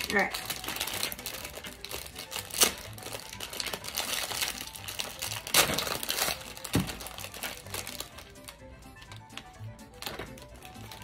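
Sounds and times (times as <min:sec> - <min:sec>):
snack packaging crinkling: 0:00.0 - 0:11.0.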